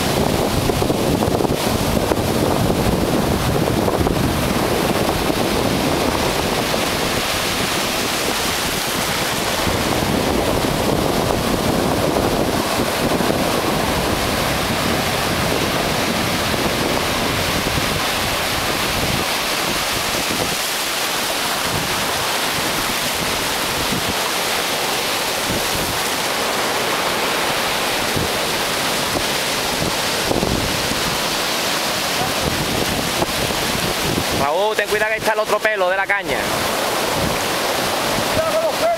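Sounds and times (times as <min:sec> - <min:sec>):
wind buffeting microphone: 0:00.0 - 0:35.3, 0:36.2 - 0:38.9
ocean surf breaking: 0:00.0 - 0:38.9.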